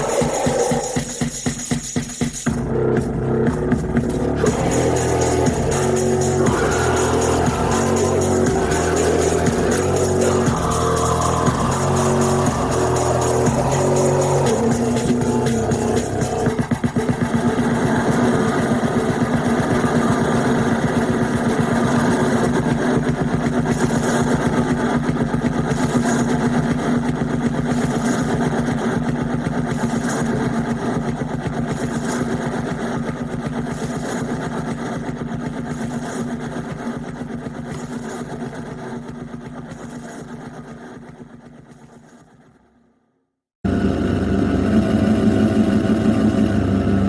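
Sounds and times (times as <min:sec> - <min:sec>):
fast pulsing buzz: 0:00.0 - 0:42.4
low drone tone: 0:02.5 - 0:40.3, 0:43.6 - 0:47.0.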